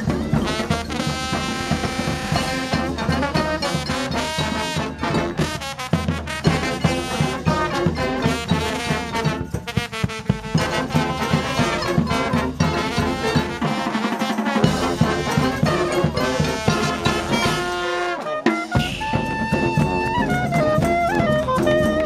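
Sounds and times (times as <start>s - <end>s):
brass band playing: 0.0s - 22.0s
steady drumbeat: 0.0s - 22.0s.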